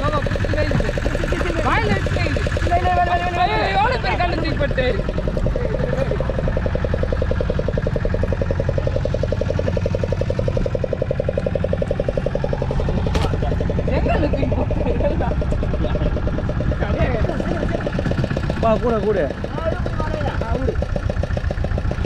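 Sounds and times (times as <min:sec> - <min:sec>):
boat engine idling: 0:00.0 - 0:22.0.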